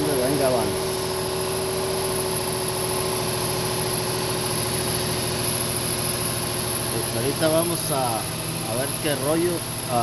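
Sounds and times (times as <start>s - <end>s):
car engine idling: 0.0s - 10.0s
steady whining tone: 0.0s - 10.0s.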